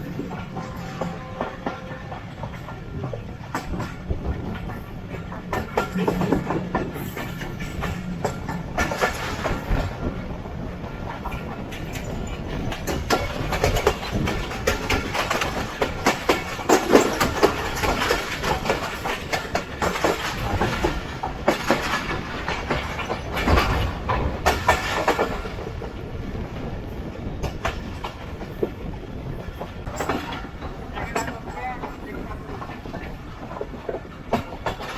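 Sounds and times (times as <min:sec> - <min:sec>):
train wheels clattering over rail joints: 0:00.0 - 0:34.9.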